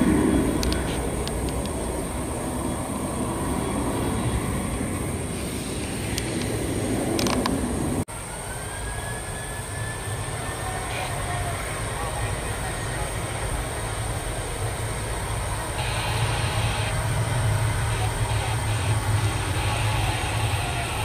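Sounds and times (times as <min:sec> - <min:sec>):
jet engines rumbling: 0:00.0 - 0:21.0
jet engines spooling up whine: 0:00.0 - 0:21.0.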